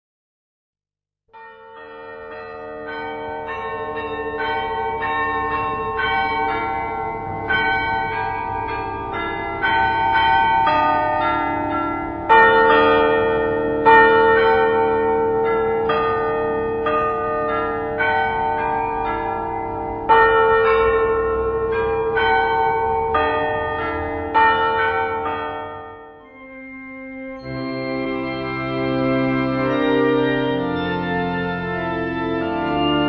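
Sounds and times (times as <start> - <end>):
church bells ringing: 1.3 - 33.0.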